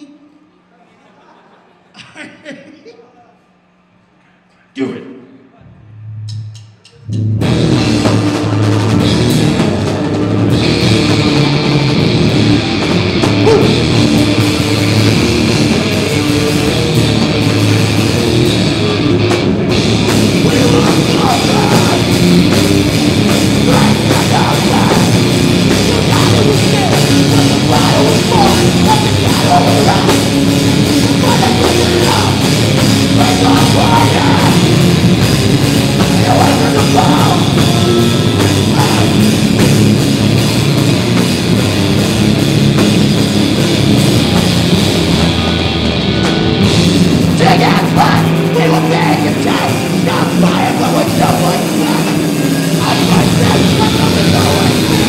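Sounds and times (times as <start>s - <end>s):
heavy rock band playing: 7.1s - 55.0s.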